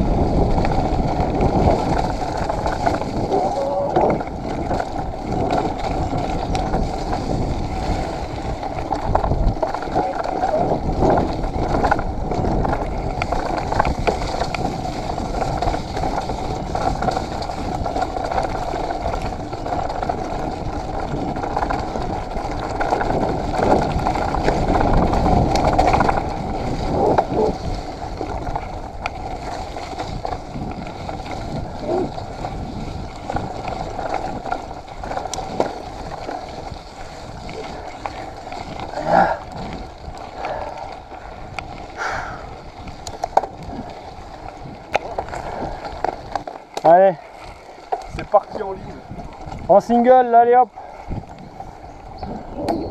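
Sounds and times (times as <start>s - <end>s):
bike clicks and rattles: 0.0s - 52.9s
bike rolling on muddy trail: 0.0s - 52.9s
wind noise: 0.0s - 52.9s.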